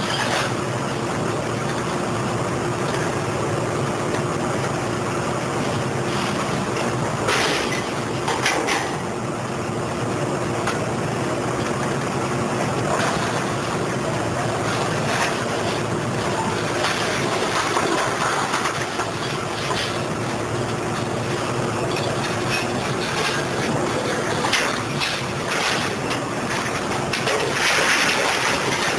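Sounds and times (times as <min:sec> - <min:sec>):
diesel engine and hydraulics running: 0:00.0 - 0:28.9.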